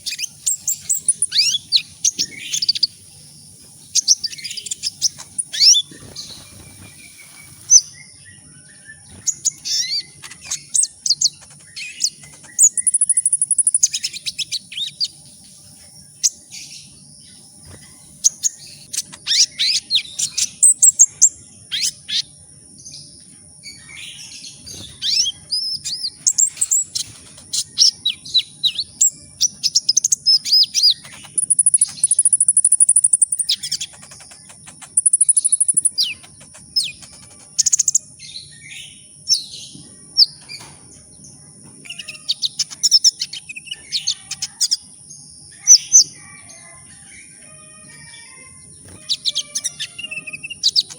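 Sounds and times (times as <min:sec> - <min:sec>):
faint high whine: 0:00.0 - 0:44.0
sunbird chirping and trilling: 0:00.0 - 0:50.9.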